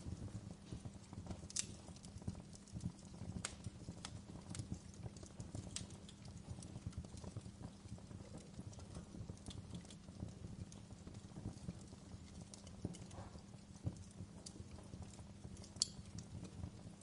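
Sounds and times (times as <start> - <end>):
fire popping and snapping: 0.0 - 17.0
low rumble of burning: 0.0 - 17.0.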